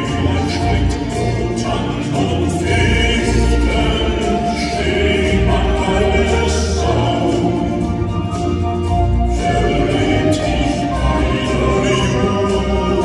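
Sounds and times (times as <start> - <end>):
man singing lead: 0.0 - 8.3, 9.4 - 13.0
acoustic guitar: 0.0 - 13.0
grand piano: 0.0 - 13.0
keyboard: 0.0 - 13.0
women singing harmonies: 0.0 - 13.0.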